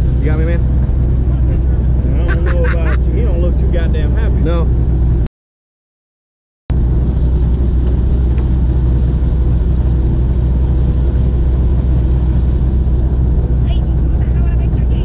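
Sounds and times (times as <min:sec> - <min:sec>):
boat engine droning: 0:00.0 - 0:05.3, 0:06.7 - 0:15.0.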